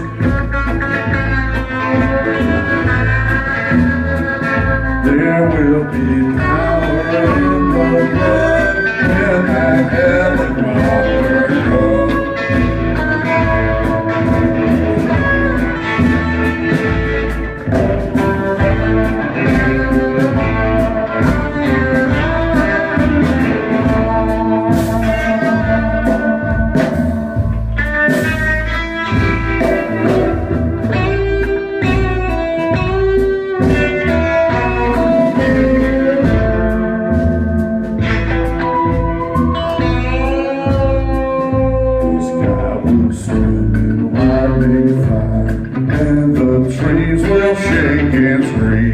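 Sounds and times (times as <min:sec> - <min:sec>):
band playing instrumental: 0:00.0 - 0:48.9
guitar: 0:00.0 - 0:48.9.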